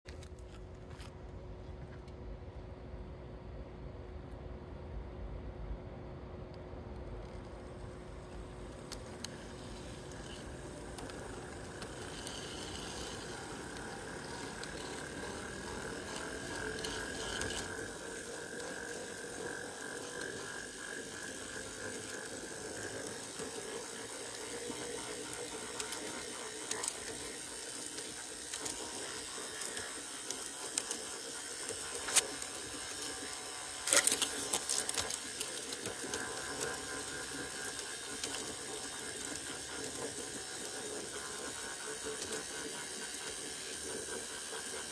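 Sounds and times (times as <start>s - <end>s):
electric motor whine: 6.9s - 44.9s
sharp clicks of wheels: 6.9s - 44.9s.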